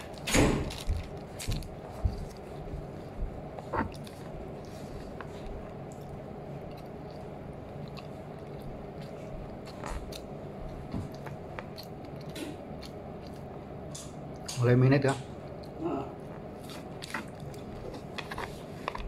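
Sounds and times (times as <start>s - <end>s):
person chewing: 0.0s - 14.6s, 15.4s - 19.0s
steady room hum: 0.0s - 19.0s.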